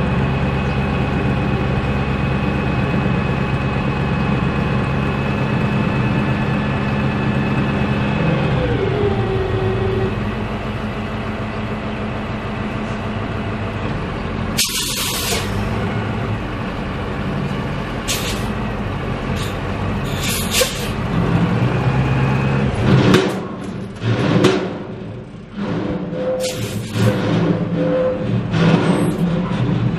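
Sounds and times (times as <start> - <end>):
diesel truck engine running: 0.0 - 29.9.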